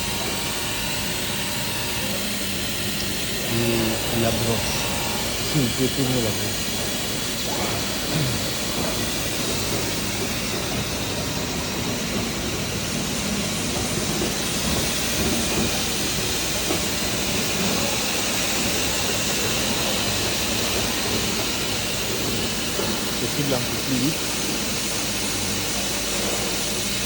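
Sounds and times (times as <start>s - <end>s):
milling machine spindle whirring: 0.0s - 27.0s.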